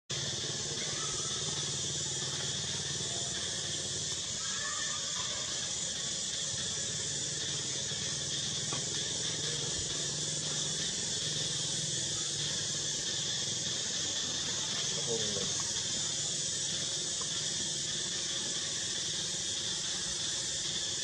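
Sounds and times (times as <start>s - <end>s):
high-pitched insect drone: 0.1s - 21.0s.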